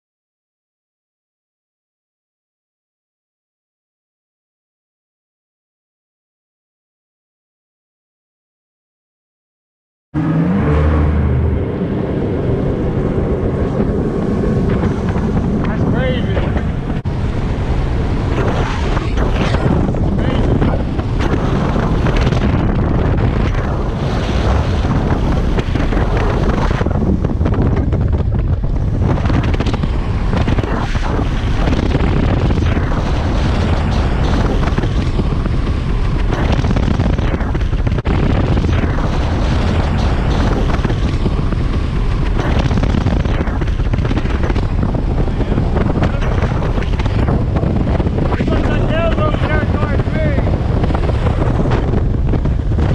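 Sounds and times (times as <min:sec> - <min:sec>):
wind buffeting microphone: 0:10.2 - 0:52.9.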